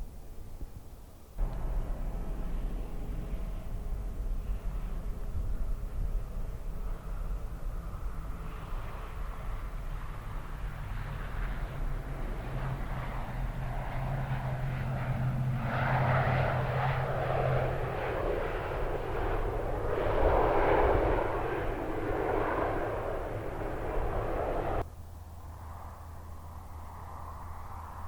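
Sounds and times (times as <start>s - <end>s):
steady rumble: 0.0s - 28.0s
jet engines rushing: 1.4s - 28.0s.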